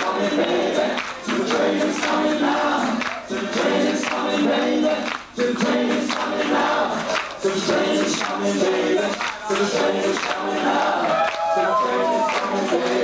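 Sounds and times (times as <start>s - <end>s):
crowd singing along: 0.0s - 13.0s.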